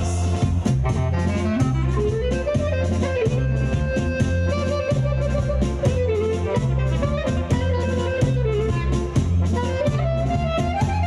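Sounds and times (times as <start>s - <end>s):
lively instrumental music: 0.0s - 11.0s.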